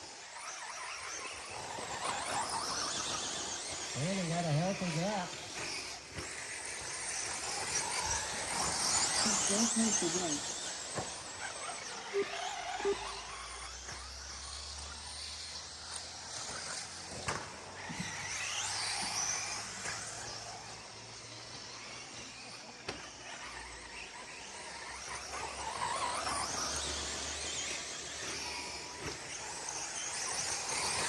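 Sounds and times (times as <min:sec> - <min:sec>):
toy truck motors whining: 0:00.0 - 0:31.0.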